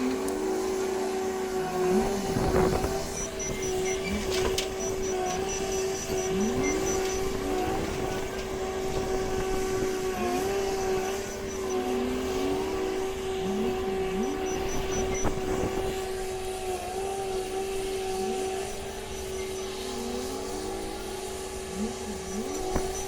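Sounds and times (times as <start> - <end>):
wheel loader engine revving: 0.0 - 23.0.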